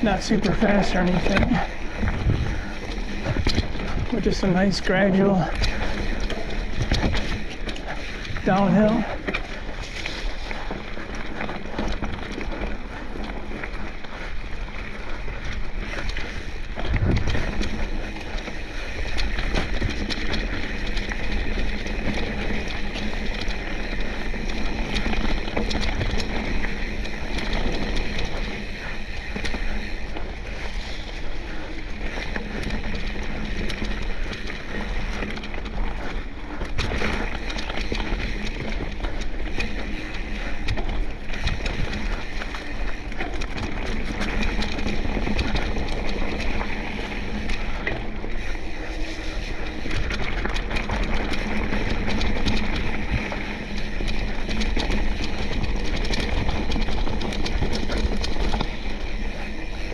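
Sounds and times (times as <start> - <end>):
bike rattling over bumps: 0.0 - 59.9
bike tyres on dirt: 0.0 - 59.9.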